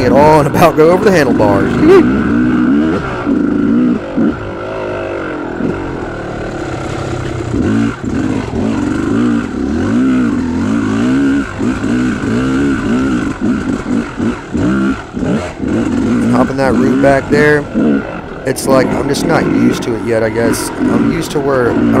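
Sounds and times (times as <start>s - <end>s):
two-stroke dirt bike engine revving: 0.0s - 22.0s.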